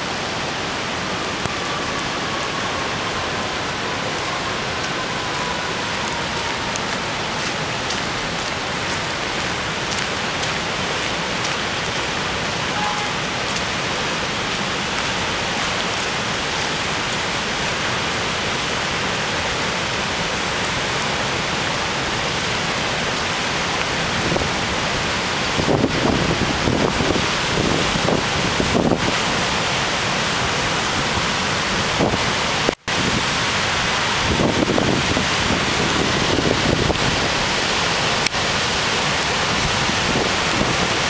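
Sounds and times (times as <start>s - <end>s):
steady hiss of water: 0.0s - 41.0s.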